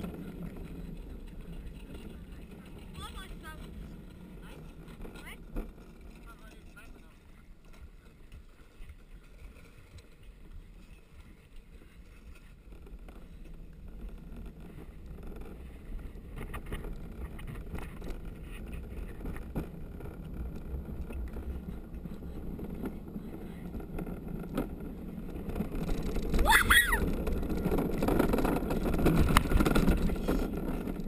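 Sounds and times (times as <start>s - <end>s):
cart wheels rumbling on concrete: 0.0s - 31.0s
sharp knocks of cart rattling: 0.0s - 31.0s.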